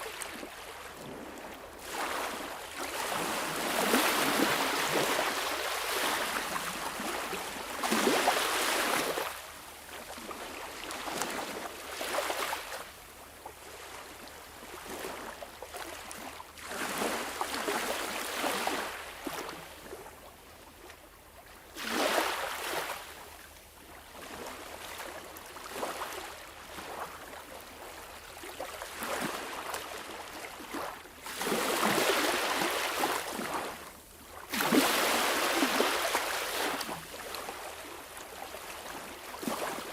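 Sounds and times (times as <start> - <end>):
water lapping: 0.0 - 20.1, 21.7 - 39.9.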